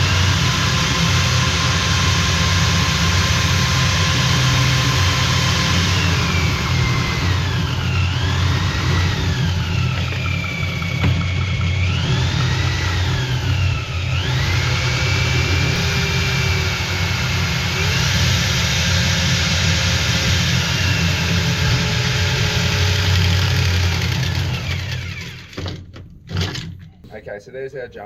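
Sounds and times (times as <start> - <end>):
machine engine running: 0.0 - 25.6
pipe cutter whine: 0.0 - 26.7.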